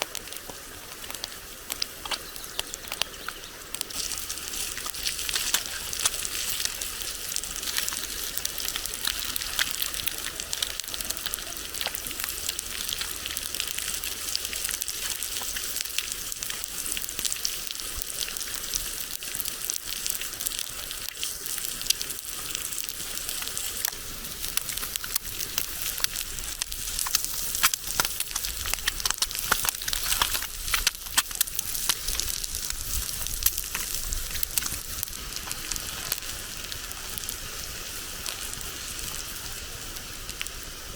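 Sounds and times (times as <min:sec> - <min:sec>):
food sizzling over campfire: 0:00.0 - 0:40.9.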